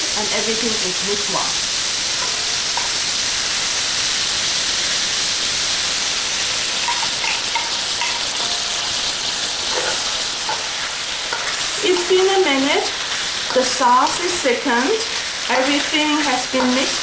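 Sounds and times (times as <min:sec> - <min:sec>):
stir-fry sizzling in wok: 0:00.0 - 0:17.0.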